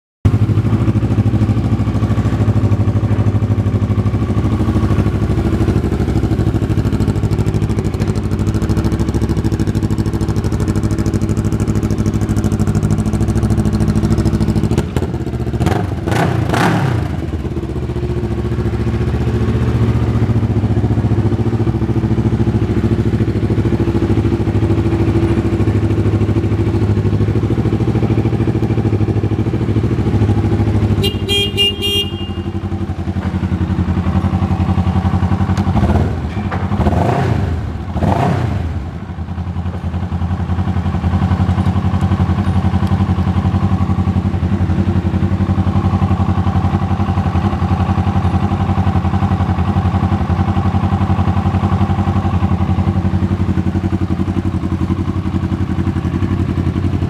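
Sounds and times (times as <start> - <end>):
motorcycle engine idling: 0.3 - 57.0.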